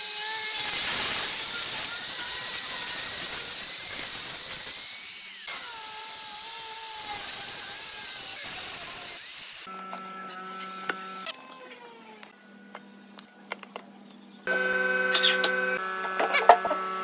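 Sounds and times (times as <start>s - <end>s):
power tool cutting wood: 0.0s - 12.4s, 14.5s - 17.0s.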